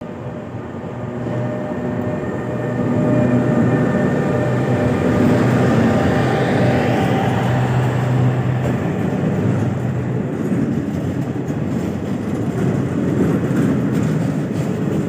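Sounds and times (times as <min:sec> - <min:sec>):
diesel train engine drone: 0:00.0 - 0:15.0.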